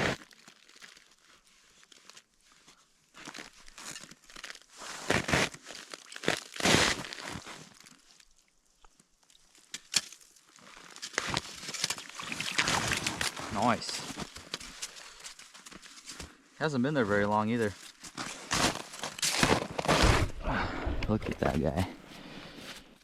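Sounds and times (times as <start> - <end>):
snow and ice crunching: 0.0 - 23.0.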